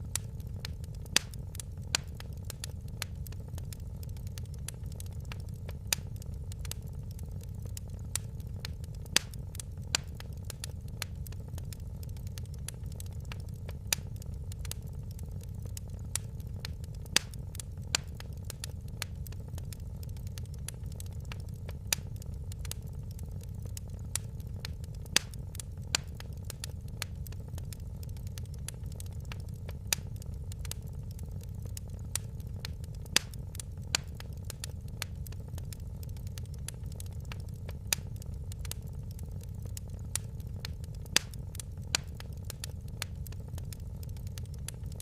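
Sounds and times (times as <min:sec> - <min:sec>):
fire crackling: 0:00.0 - 0:45.0
low fire rumble: 0:00.0 - 0:45.0.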